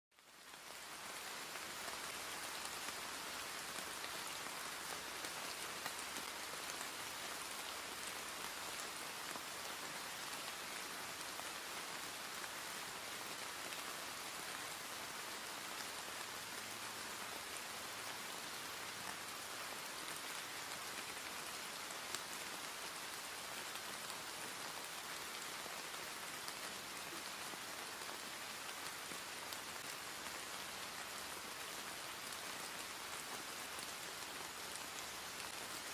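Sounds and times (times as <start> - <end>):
rain pattering on a surface: 0.1 - 35.9.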